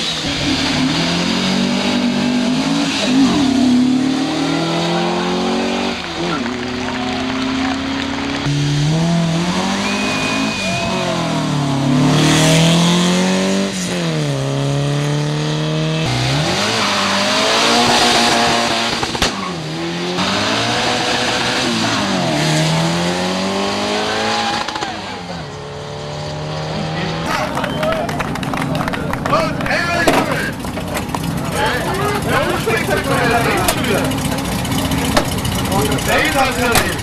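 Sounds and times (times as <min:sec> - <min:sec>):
racing car engines revving: 0:00.0 - 0:37.0.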